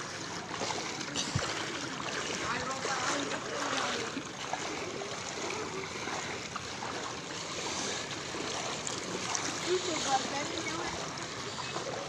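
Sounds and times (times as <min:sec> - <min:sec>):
floodwater sloshing around legs: 0:00.0 - 0:12.0.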